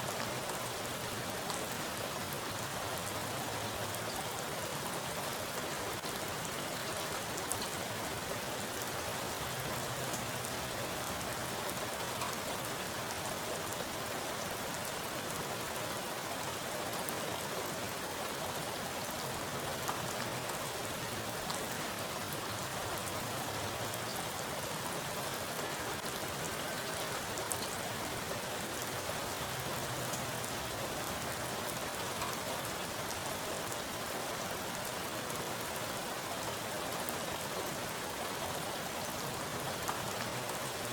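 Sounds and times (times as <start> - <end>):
heavy rain on standing water: 0.0 - 40.9.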